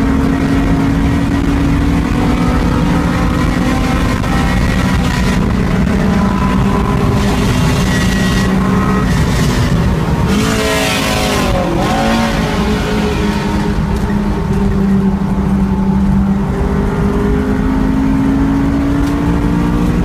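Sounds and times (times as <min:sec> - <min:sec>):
car engine at high revs: 0:00.0 - 0:20.0
rush of noise: 0:00.0 - 0:20.0.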